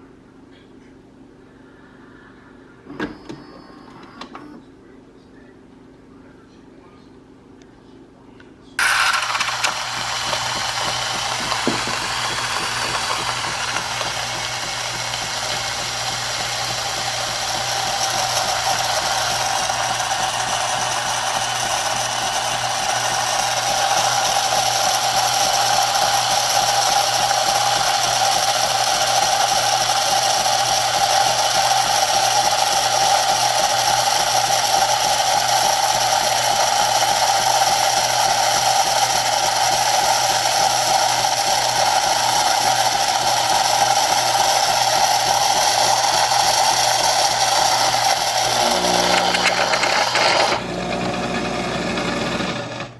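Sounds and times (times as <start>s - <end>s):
espresso machine running: 8.8s - 52.9s.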